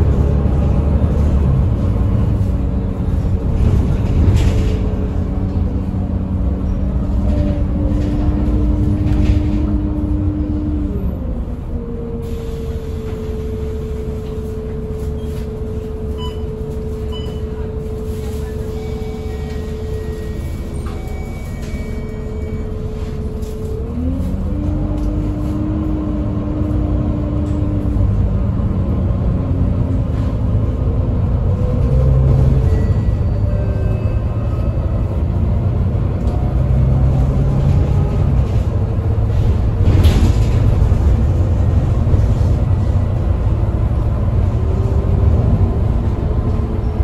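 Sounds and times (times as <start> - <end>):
bus engine rumble: 0.0 - 47.0.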